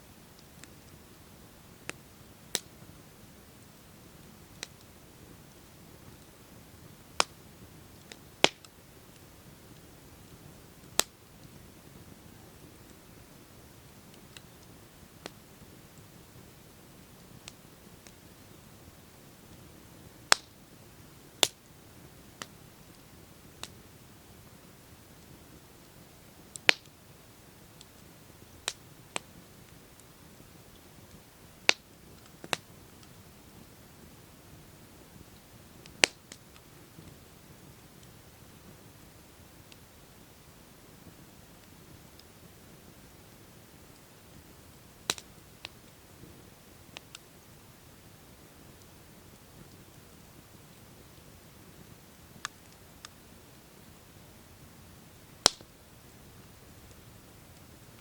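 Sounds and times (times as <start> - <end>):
campfire wood crackling: 0.0 - 58.0
low hiss of fire: 0.0 - 58.0
burning wood popping: 0.2 - 54.0, 55.2 - 58.0.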